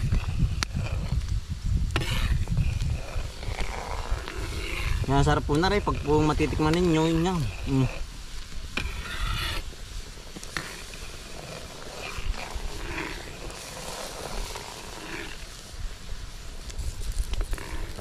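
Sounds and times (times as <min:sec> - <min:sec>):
syrup boiling and bubbling: 0:00.0 - 0:15.5.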